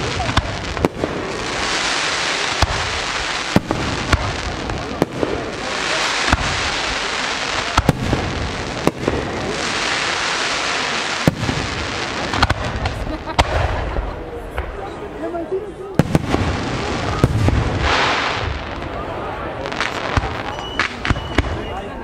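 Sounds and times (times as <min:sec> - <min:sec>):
fireworks bangs: 0:00.0 - 0:15.1, 0:15.9 - 0:22.0
continuous hiss: 0:00.0 - 0:22.0.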